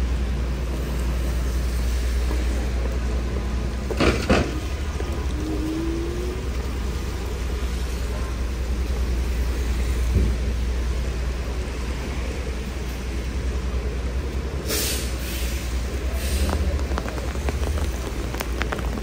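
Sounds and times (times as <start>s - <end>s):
traffic on wet road: 0.0s - 19.0s.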